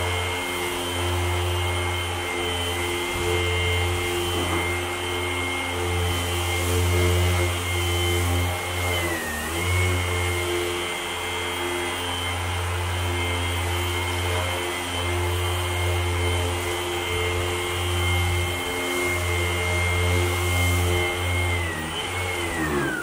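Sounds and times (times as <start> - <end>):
orbital sander motor whine: 0.0 - 23.0.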